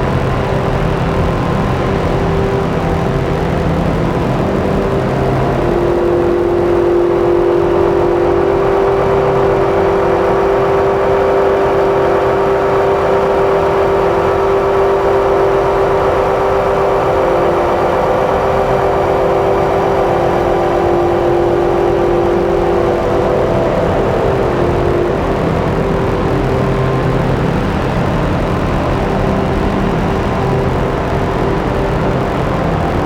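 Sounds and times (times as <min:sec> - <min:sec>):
electronic synthesizer drone: 0:00.0 - 0:33.0.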